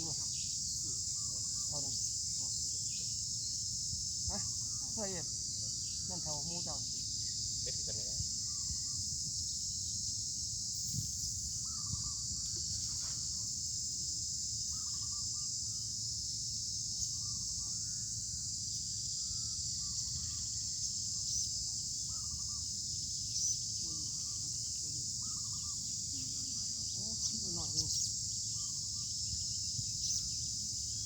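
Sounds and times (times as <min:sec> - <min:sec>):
high-pitched insect drone: 0:00.0 - 0:31.0
low rumble of wind: 0:00.0 - 0:31.0.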